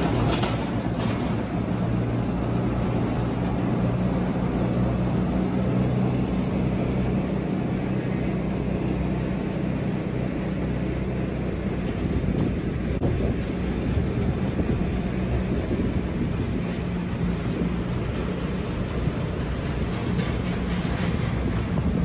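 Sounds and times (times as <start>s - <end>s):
engine hum: 0.0s - 22.0s
hay blowing rush: 0.0s - 22.0s.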